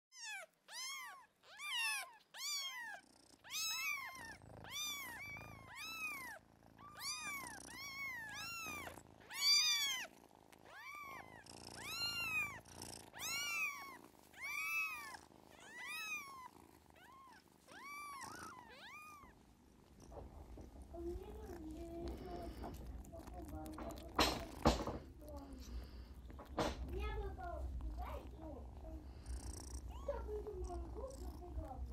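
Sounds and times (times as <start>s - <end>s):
kittens mewing: 0.1s - 19.4s, 20.0s - 31.9s
cat purring: 1.6s - 31.9s.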